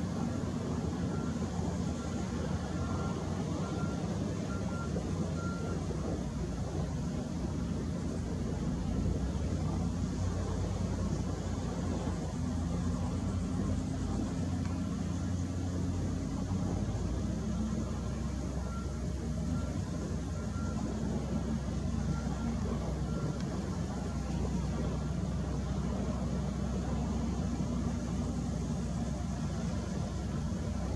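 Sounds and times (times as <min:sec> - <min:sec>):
faint beeping: 0:00.0 - 0:30.9
wheel loader diesel engine: 0:00.0 - 0:30.9.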